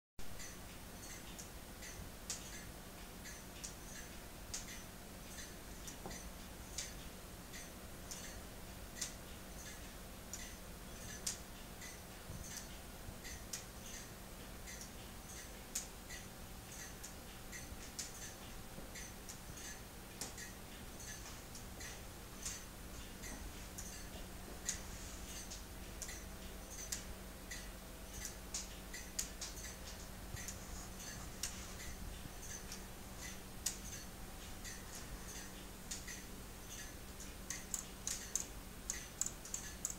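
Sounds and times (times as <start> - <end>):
plastic clock ticking: 0.3 - 39.9.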